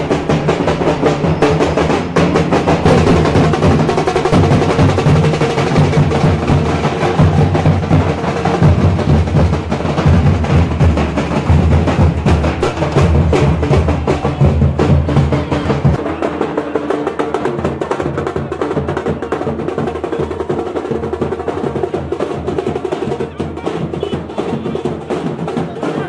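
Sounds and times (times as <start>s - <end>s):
drums beaten with sticks: 0.0s - 26.0s.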